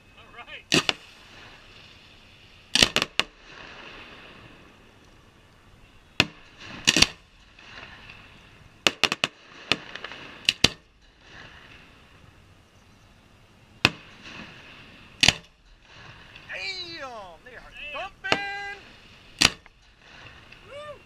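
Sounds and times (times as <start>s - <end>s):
fireworks bursting: 0.7s - 5.3s, 6.1s - 12.2s, 13.8s - 21.0s.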